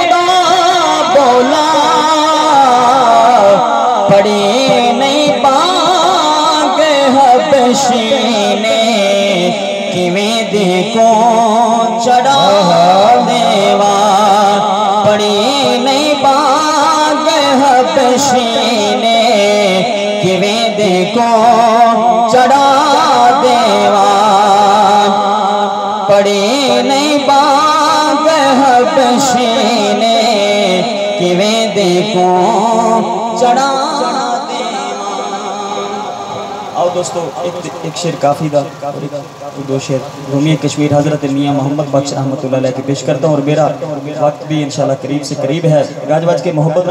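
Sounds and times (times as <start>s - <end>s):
man singing over loudspeaker: 0.0s - 46.9s.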